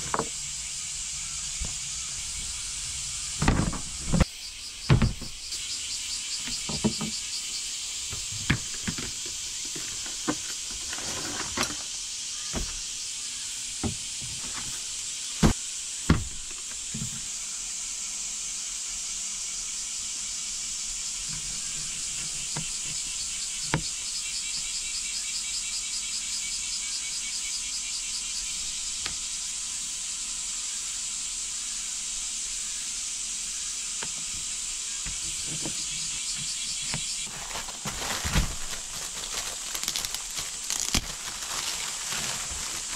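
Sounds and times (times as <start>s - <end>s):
insects chirring: 0.0s - 42.9s.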